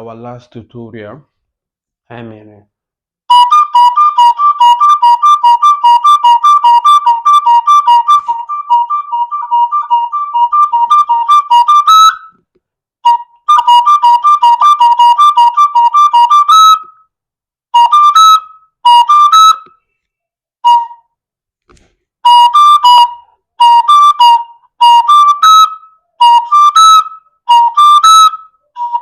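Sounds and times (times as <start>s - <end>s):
wooden flute phrases: 3.3s - 29.0s.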